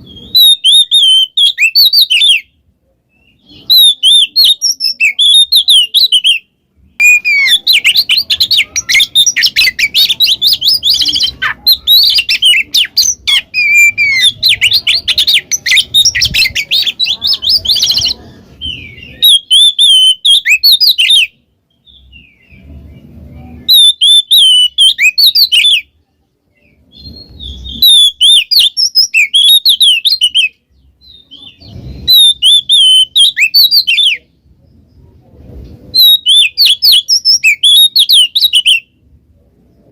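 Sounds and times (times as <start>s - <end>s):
songbird singing whistles and chatter: 0.0s - 39.9s.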